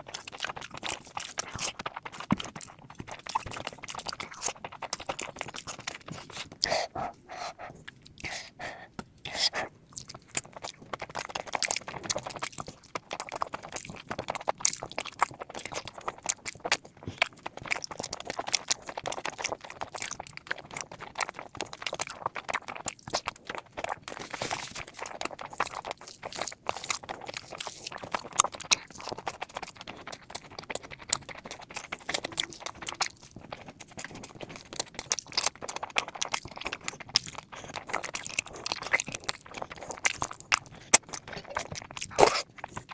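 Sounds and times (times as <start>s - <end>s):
person chewing and smacking food: 0.0s - 42.9s.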